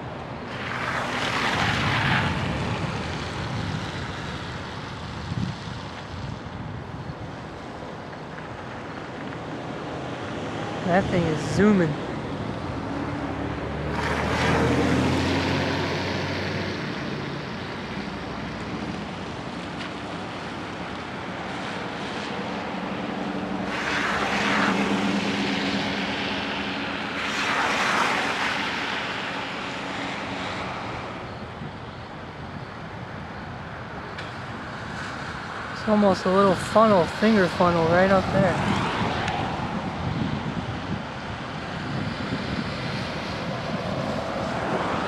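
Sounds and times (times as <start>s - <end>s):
storm wind gusting with rain: 0.0s - 45.0s.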